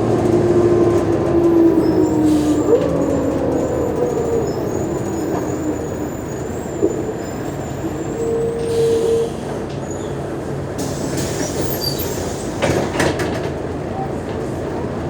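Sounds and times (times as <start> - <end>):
diesel bus engine rumble: 0.0 - 15.0.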